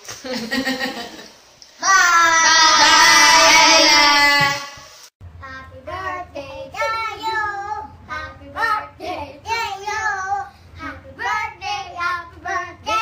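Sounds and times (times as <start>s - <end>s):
child singing: 1.8s - 4.8s, 5.4s - 13.0s.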